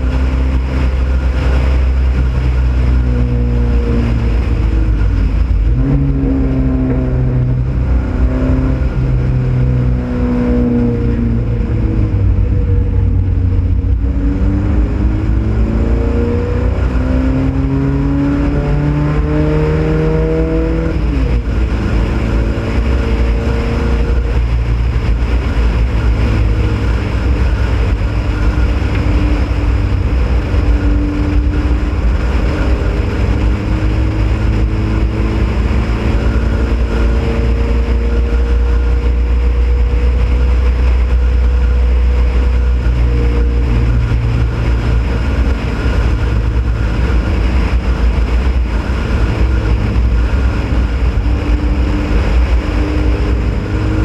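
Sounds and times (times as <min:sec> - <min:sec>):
race car engine revving: 0:00.0 - 0:54.0
wind rumble on microphone: 0:00.0 - 0:54.0.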